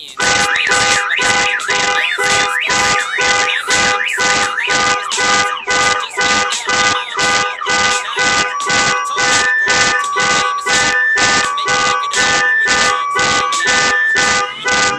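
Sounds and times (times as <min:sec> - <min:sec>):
hip-hop beat: 0:00.0 - 0:14.9
siren-like synth tones: 0:00.0 - 0:14.9.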